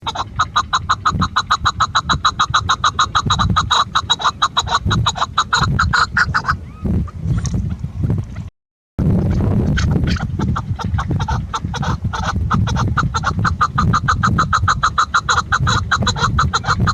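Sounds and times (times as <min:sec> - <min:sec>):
partridge calling: 0:00.0 - 0:07.2, 0:09.8 - 0:16.9.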